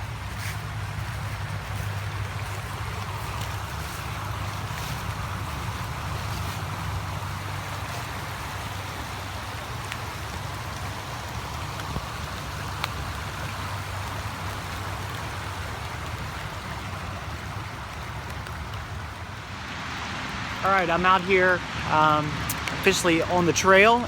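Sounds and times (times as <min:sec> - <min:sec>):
distant highway traffic rumble: 0:00.0 - 0:24.0
rain patter: 0:00.0 - 0:24.0.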